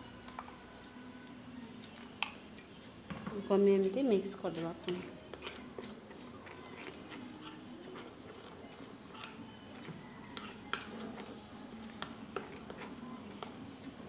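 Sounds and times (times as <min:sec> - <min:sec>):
spoon stirring batter in glass bowl: 0:00.2 - 0:14.0.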